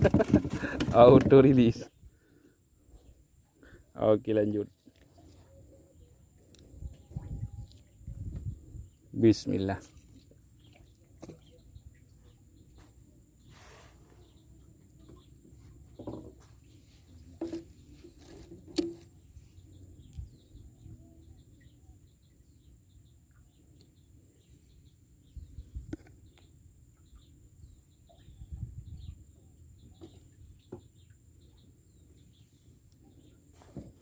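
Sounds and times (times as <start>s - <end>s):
faint bird chirps: 1.9s - 10.0s, 10.6s - 34.0s.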